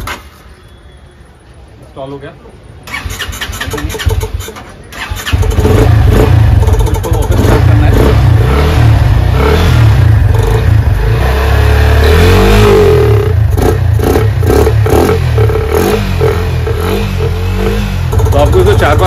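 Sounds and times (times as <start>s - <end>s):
motorcycle engine revving: 2.8s - 19.0s.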